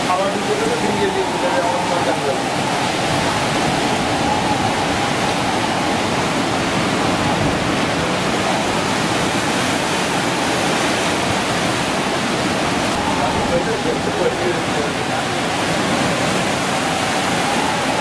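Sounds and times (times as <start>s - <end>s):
stormy surf: 0.0s - 18.0s
strong wind: 0.0s - 18.0s.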